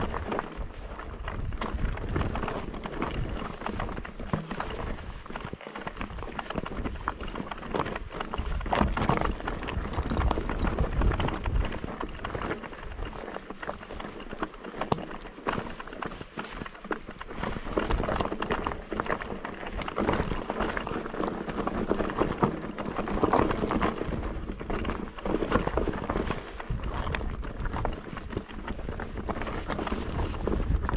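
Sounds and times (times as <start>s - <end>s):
bike rattling over rocky trail: 0.0s - 30.9s.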